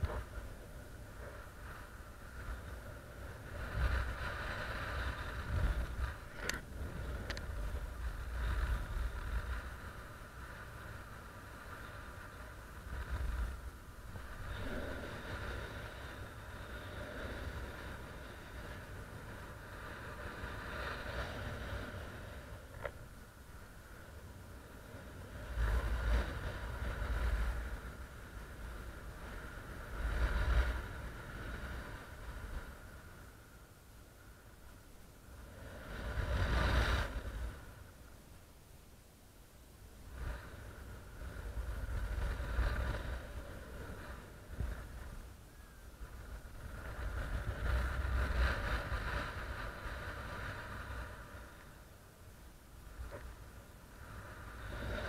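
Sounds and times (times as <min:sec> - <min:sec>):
wind buffeting microphone: 0:00.0 - 0:33.5, 0:35.2 - 0:38.0, 0:39.9 - 0:51.7.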